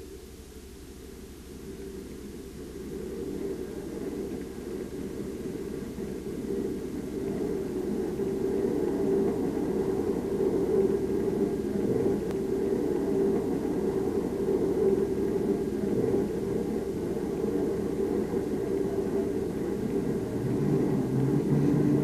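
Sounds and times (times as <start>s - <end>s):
faint hum: 0.0s - 22.0s
low rumbling drone: 0.0s - 22.0s.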